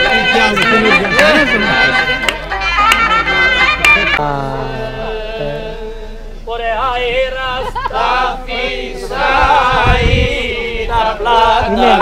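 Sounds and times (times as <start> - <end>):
unaccompanied group singing: 0.0 - 12.0.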